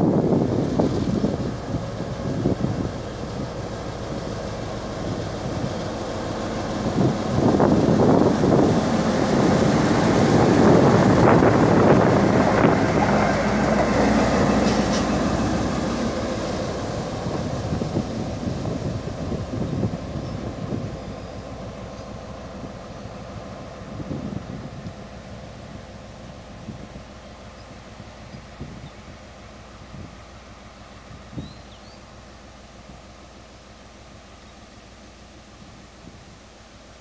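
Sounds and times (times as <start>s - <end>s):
diesel locomotive engine: 0.0s - 37.0s.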